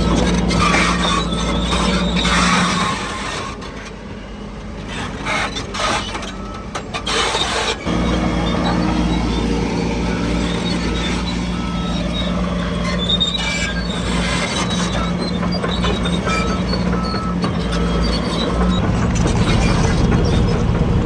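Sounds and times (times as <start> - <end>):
diesel engine running: 0.0 - 21.0
metal clanks and squeaks: 0.0 - 21.0.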